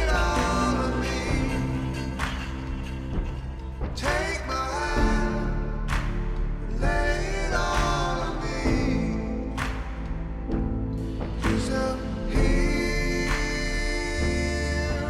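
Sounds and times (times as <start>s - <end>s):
song with vocals and instruments: 0.0s - 15.0s.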